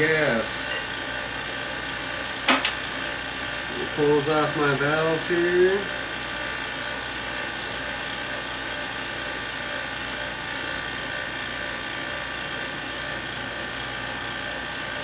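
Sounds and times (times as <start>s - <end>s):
vacuum pump whirring hiss: 0.0s - 15.0s.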